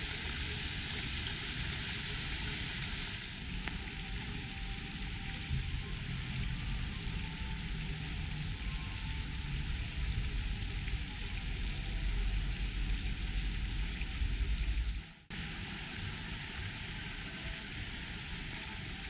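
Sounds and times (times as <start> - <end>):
low fluctuating rumble: 0.0 - 19.0
steady hiss: 0.0 - 19.0.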